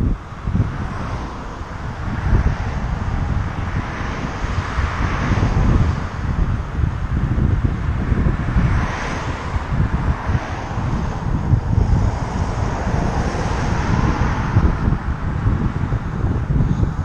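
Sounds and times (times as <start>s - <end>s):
hiss of air and road: 0.0s - 17.0s
wind buffeting microphone: 0.0s - 17.0s.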